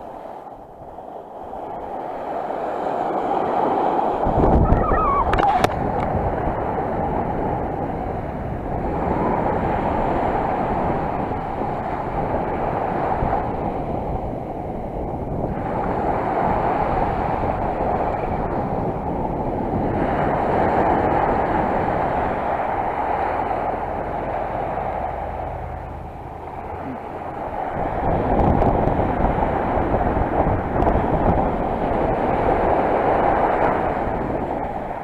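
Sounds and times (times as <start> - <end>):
sea surf washing in: 0.0 - 35.0
wind rumbling on microphone: 0.0 - 35.0.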